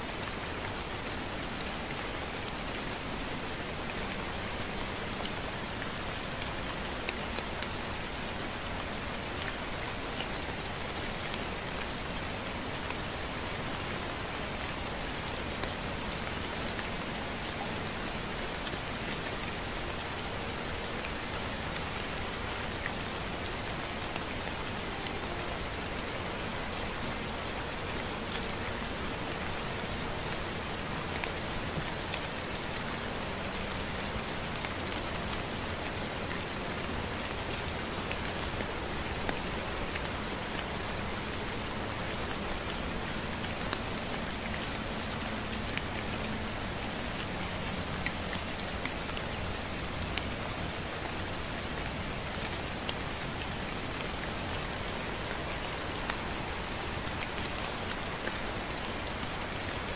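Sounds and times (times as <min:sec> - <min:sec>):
gentle rain falling: 0:00.0 - 0:59.9
raindrops ticking close by: 0:00.1 - 0:59.9.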